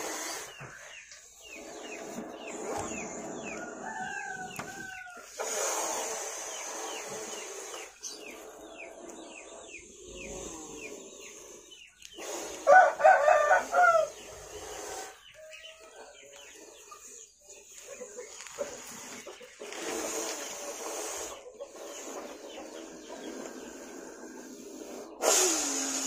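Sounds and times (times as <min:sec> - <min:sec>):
snake growling: 0:00.0 - 0:15.3, 0:18.0 - 0:26.0
chickens clucking: 0:00.0 - 0:26.0.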